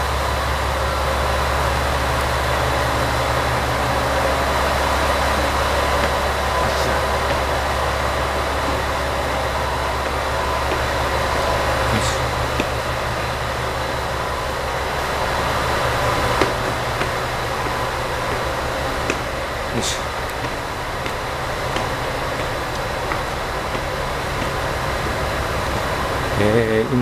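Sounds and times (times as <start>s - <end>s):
faint steady whines: 0.0s - 27.0s
mechanical drone with low hum: 0.0s - 27.0s.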